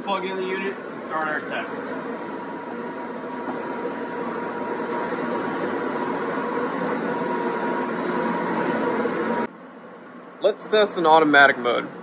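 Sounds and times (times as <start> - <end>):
faint steady whine: 0.0 - 12.0
ventilation hum and air noise: 0.0 - 12.0.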